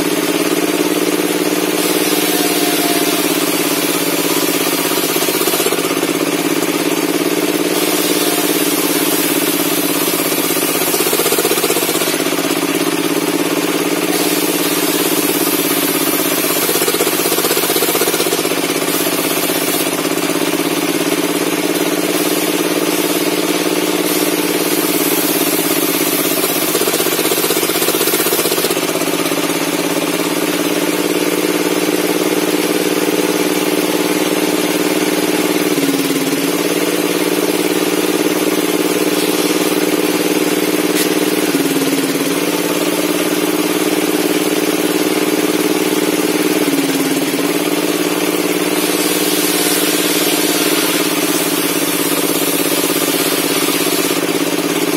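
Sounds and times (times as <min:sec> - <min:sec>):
table saw running: 0:00.0 - 0:54.9.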